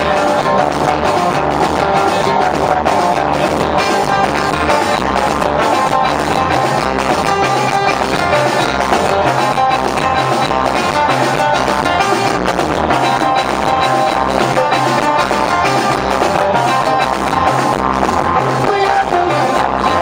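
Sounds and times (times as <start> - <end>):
drum kit fast rhythm: 0.0 - 20.0
electronic keyboard notes: 0.0 - 20.0.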